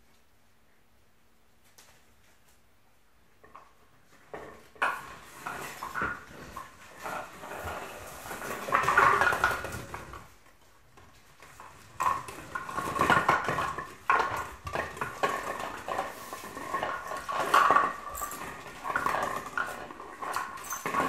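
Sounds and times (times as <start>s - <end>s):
plastic bottles clattering on floor: 3.4s - 21.0s.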